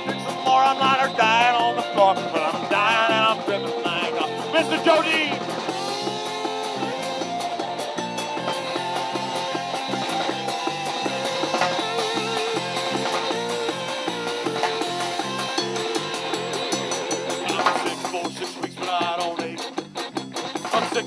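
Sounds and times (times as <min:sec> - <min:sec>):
bass guitar: 0:00.0 - 0:21.0
drums with cymbal hits: 0:00.0 - 0:21.0
lead guitar with bending notes: 0:00.0 - 0:21.0.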